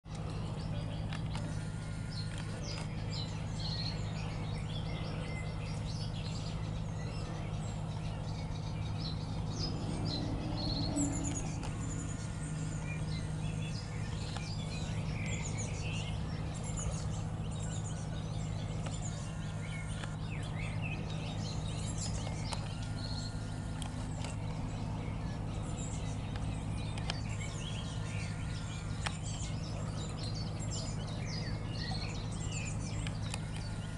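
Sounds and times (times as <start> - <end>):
birds chirping and calling: 0.1 - 33.9
low background rumble: 0.1 - 33.9.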